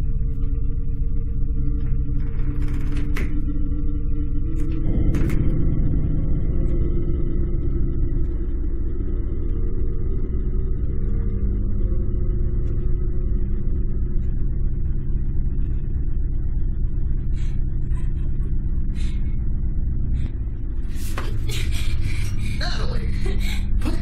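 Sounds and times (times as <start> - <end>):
low rumbling drone: 0.0 - 24.0.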